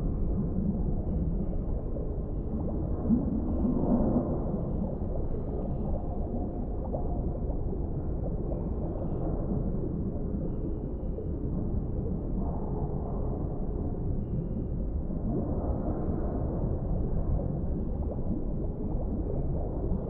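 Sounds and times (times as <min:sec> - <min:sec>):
muffled underwater rumble: 0:00.0 - 0:20.0
water gurgling and bubbling: 0:00.0 - 0:20.0.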